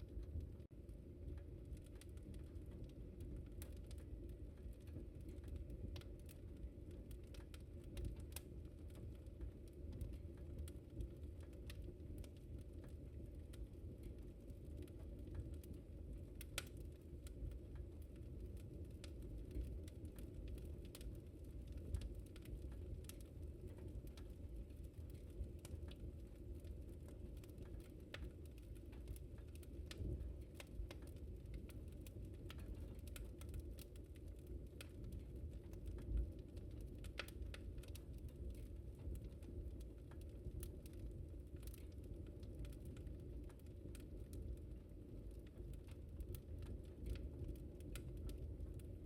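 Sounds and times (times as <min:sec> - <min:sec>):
low rumble of flames: 0:00.0 - 0:49.0
wood fire crackling and popping: 0:00.0 - 0:49.0.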